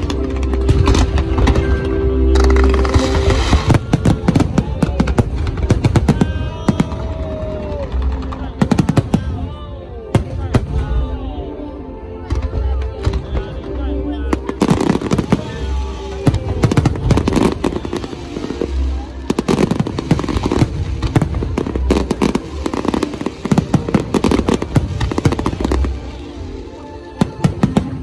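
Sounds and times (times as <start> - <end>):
fireworks booming and crackling: 0.0 - 11.4, 12.2 - 28.0
music: 0.0 - 28.0.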